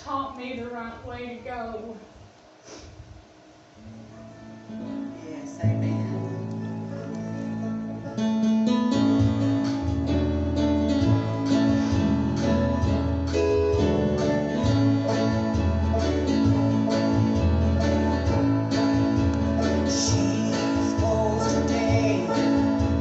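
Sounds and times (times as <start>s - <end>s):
acoustic guitar: 3.8s - 23.0s
bass line: 4.1s - 23.0s
live band playing gospel: 4.4s - 23.0s.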